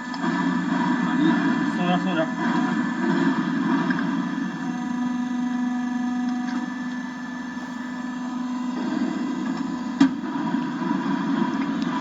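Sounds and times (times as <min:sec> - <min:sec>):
pump motor humming: 0:00.0 - 0:12.0.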